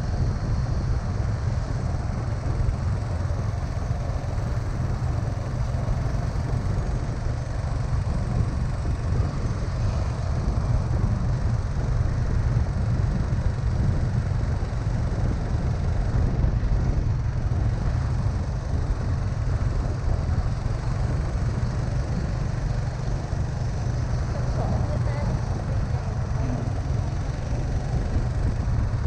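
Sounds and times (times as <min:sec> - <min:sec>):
vehicle road noise rumble: 0:00.0 - 0:29.0.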